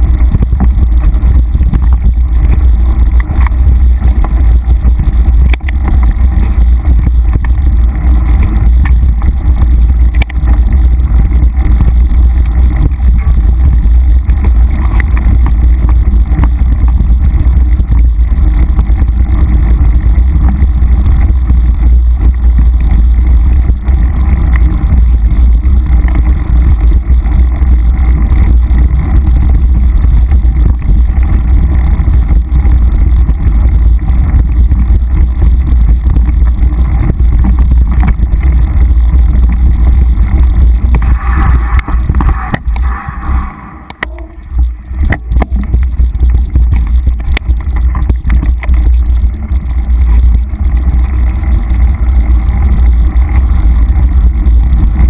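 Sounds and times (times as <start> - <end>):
bike rattling: 0.0 - 55.0
wind rumble on microphone: 0.0 - 55.0.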